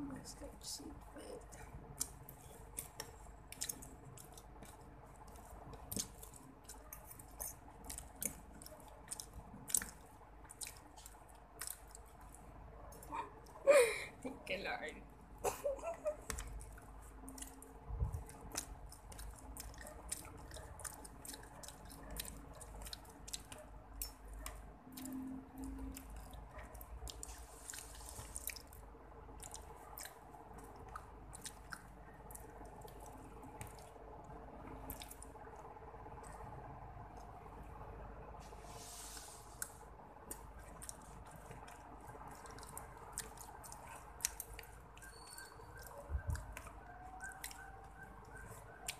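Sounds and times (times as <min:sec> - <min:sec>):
chewing and wet mouth sounds: 0:00.2 - 0:13.6, 0:16.1 - 0:48.9.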